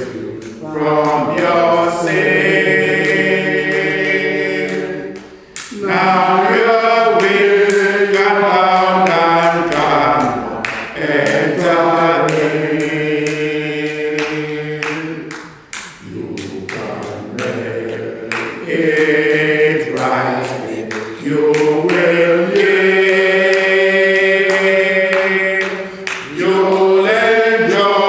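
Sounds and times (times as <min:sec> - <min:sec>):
choir singing held notes: 0:00.0 - 0:28.0.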